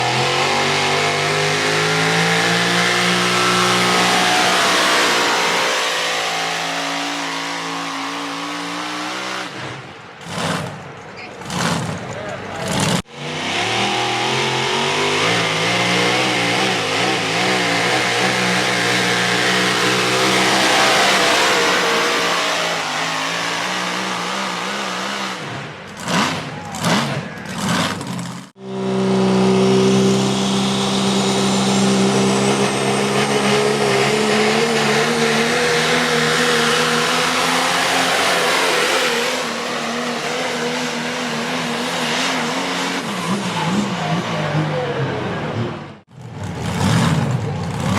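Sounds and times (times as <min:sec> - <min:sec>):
truck engine at high revs: 0:00.0 - 0:47.9.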